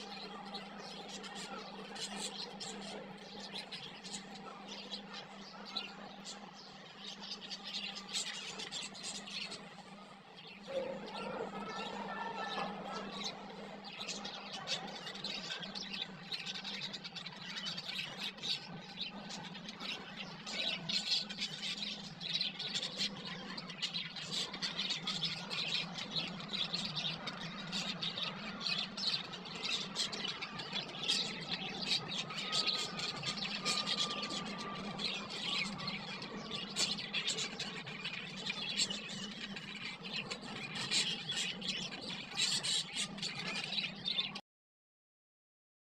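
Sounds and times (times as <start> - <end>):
budgerigars chattering and chirping: 0.0 - 44.4.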